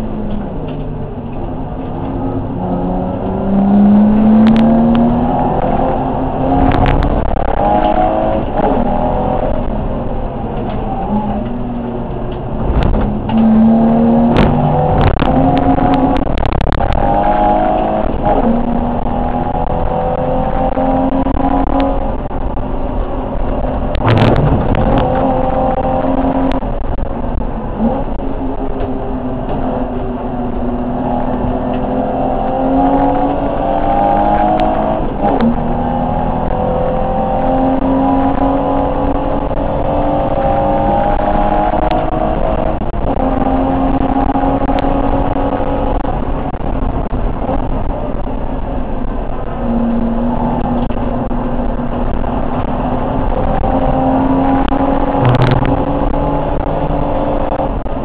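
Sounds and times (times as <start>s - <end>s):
race car engine accelerating: 0.0s - 58.0s
road and wind noise: 0.0s - 58.0s.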